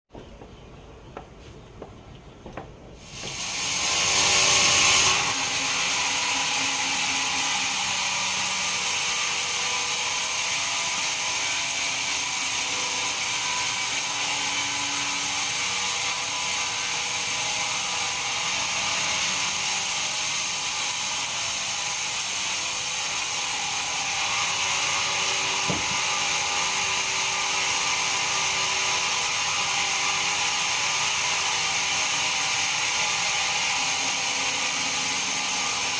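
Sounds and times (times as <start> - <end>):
band saw sawing log: 3.0 - 35.9.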